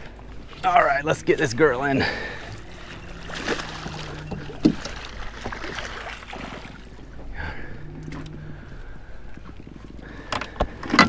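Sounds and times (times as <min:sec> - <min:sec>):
low steady hum: 0:00.0 - 0:11.0
water lapping against boat hull: 0:00.0 - 0:11.0.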